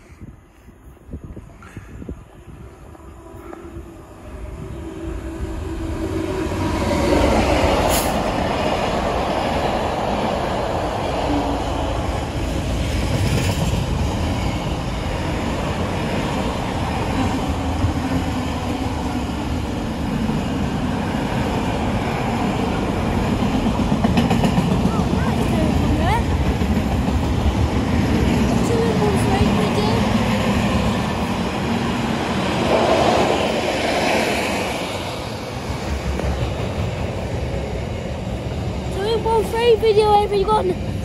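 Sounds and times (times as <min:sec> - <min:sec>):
diesel locomotives passing: 0:00.0 - 0:41.0
train wheels rumbling on rails: 0:01.1 - 0:41.0.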